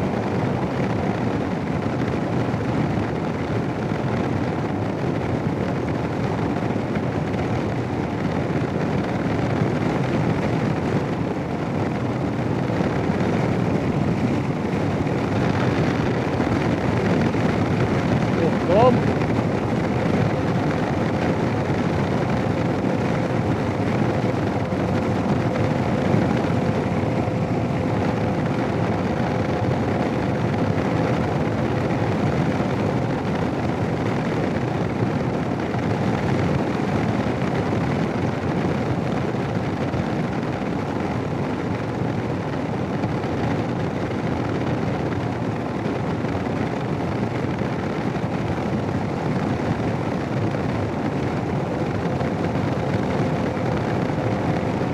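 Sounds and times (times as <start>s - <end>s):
motorcycle running: 0.0s - 54.9s
wind rushing: 0.0s - 54.9s.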